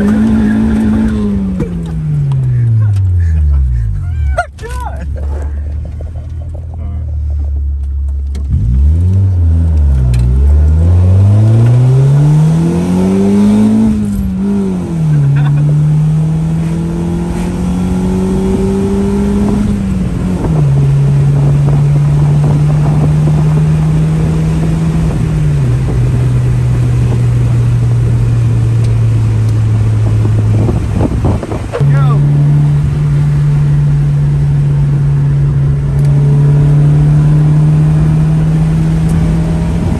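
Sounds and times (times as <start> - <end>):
car engine accelerating: 0.0 - 39.9
gear upshifts: 0.0 - 39.9.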